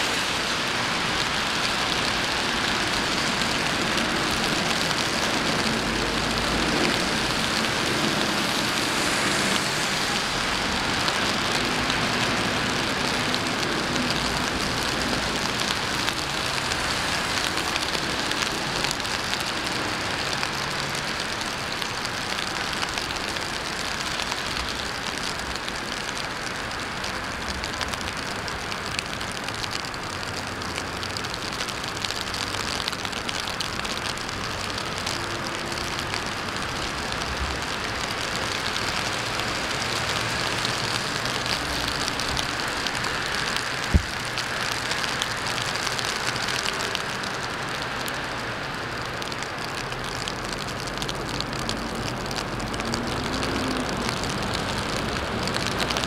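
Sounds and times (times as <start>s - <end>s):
low hum of road traffic: 0.0s - 56.0s
rain falling on street: 0.0s - 56.0s.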